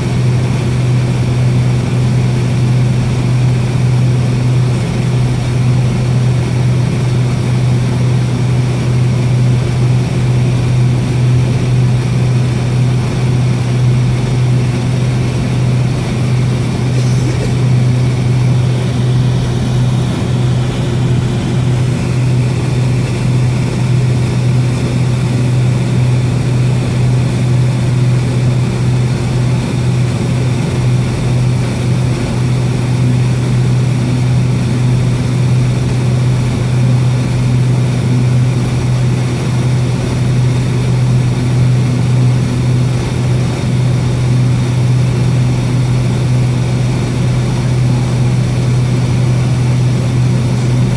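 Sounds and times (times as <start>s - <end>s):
aircraft cabin hum and hiss: 0.0s - 50.9s.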